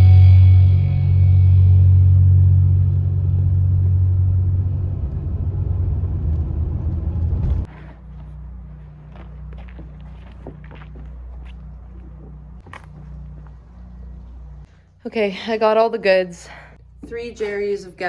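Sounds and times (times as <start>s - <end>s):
car driving rumble: 0.0s - 14.8s.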